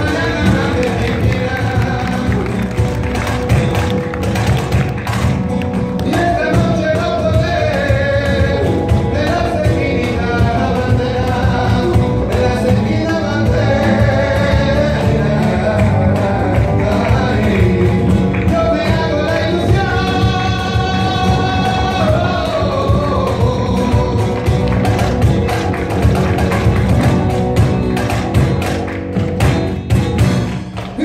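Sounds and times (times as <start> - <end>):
man singing: 0.0 - 4.0, 5.7 - 27.0
acoustic guitar: 0.0 - 31.0.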